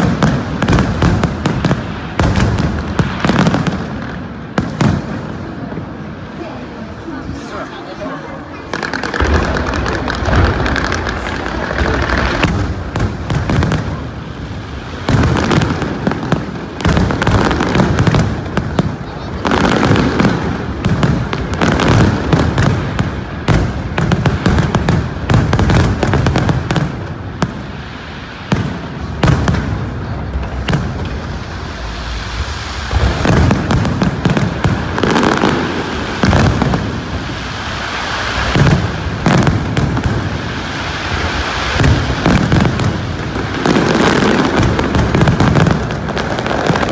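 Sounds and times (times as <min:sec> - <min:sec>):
fireworks bangs and booms: 0:00.0 - 0:46.9.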